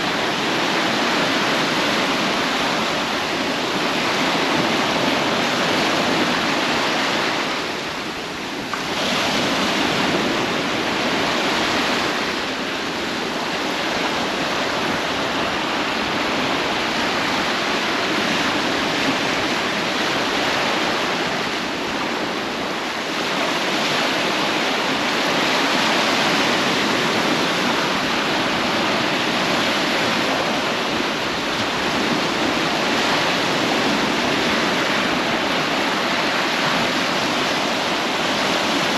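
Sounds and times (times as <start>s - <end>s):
sea surf washing on beach: 0.0s - 38.9s.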